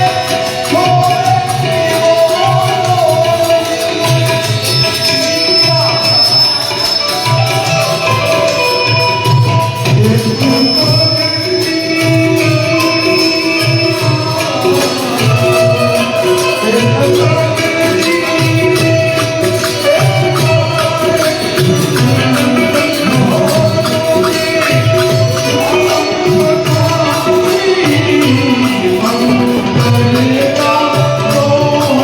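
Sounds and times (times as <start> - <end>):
devotional song music: 0.0 - 32.0
tabla rhythm: 0.0 - 32.0.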